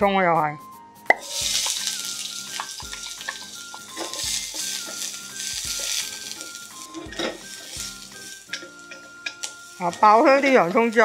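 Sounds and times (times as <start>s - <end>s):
light background music: 0.0s - 11.0s
onion sizzling in hot oil: 1.1s - 11.0s.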